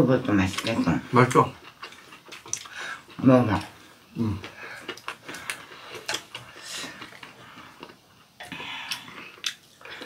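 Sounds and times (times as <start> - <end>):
person chewing food: 0.3 - 10.0.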